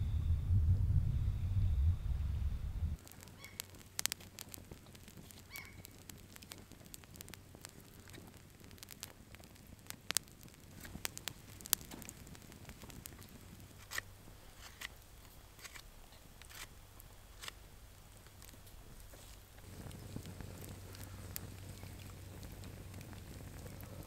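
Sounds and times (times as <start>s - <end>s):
campfire crackling and popping: 3.0s - 24.0s.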